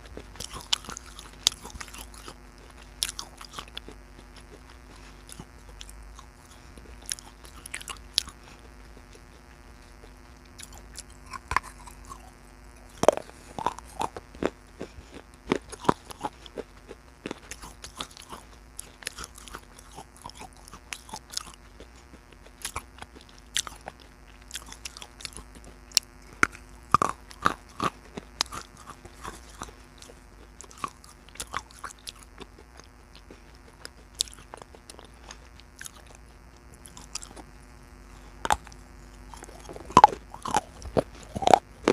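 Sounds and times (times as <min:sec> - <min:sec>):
crunchy biting and chewing: 0:00.0 - 0:41.9
faint steady hum: 0:00.0 - 0:41.9.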